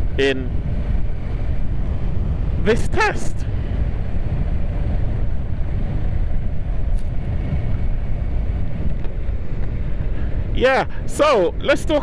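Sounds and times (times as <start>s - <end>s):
wind rumble on helmet microphone: 0.0s - 12.0s.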